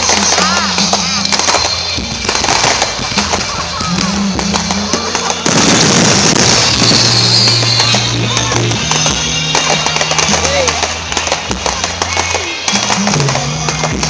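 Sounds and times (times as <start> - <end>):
crowd voices: 0.0 - 14.0
fireworks crackling and popping: 0.0 - 14.0
music: 0.0 - 14.0.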